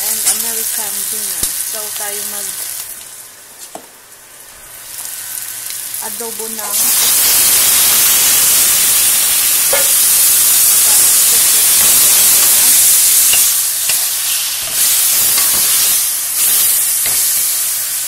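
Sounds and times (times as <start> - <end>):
squid sizzling in wok: 0.0 - 3.5, 4.2 - 18.0.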